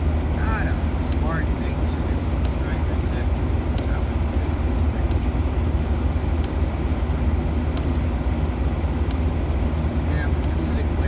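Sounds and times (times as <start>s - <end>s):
in-cab engine and tyre rumble: 0.0s - 11.0s.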